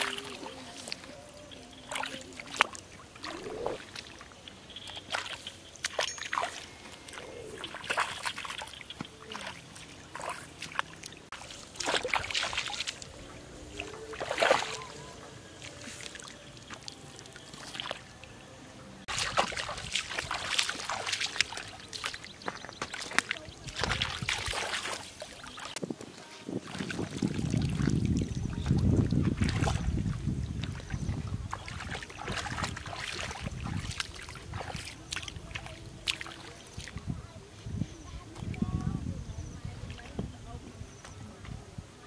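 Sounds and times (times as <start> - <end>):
feet wading through muddy water: 0.0 - 18.4, 19.0 - 38.8.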